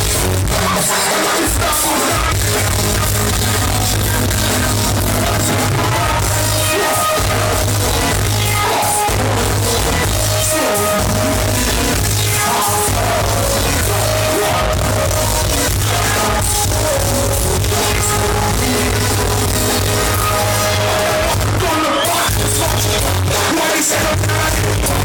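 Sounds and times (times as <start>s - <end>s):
heavy pulsing bass: 0.0s - 0.8s, 1.6s - 25.0s
live reggae band music: 0.0s - 25.0s
person singing: 0.0s - 25.0s.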